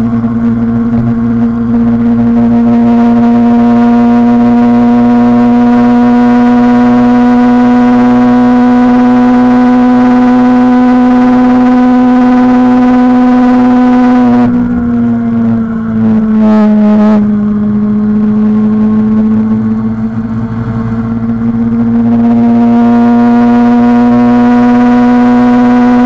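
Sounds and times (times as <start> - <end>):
motorcycle engine at high revs: 0.0 - 26.0.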